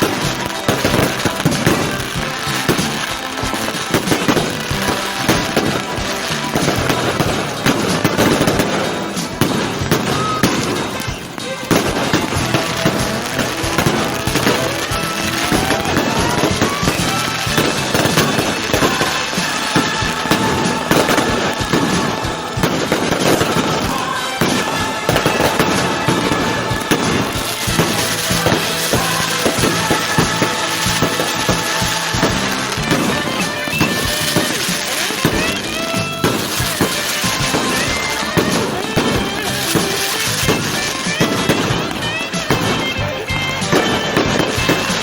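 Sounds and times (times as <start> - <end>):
fireworks bangs and crackles: 0.0 - 45.0
music playing: 0.0 - 45.0.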